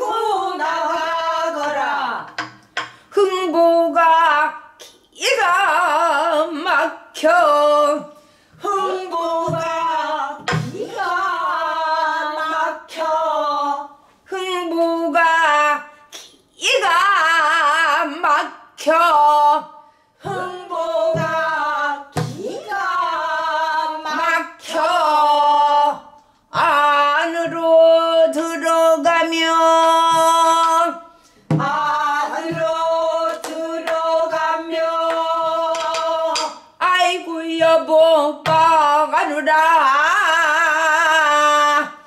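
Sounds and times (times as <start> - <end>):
woman singing: 0.0 - 42.0.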